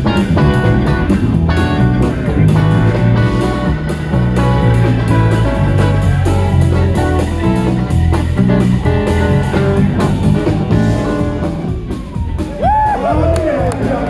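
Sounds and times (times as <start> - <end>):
electric bass line: 0.0 - 14.0
live rock band playing: 0.0 - 14.0.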